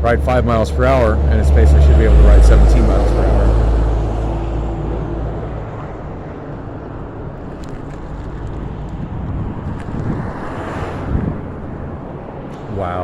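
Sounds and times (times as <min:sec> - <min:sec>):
electric scooter rumble: 0:00.0 - 0:12.9.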